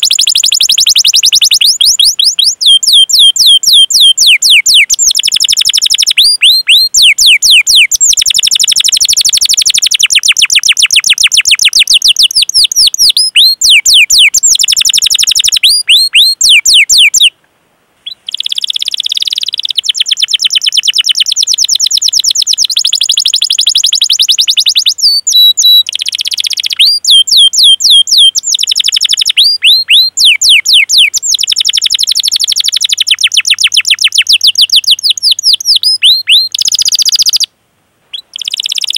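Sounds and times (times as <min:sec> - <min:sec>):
canary chirping and trilling: 0:00.0 - 0:17.3, 0:18.0 - 0:37.5, 0:38.1 - 0:38.9.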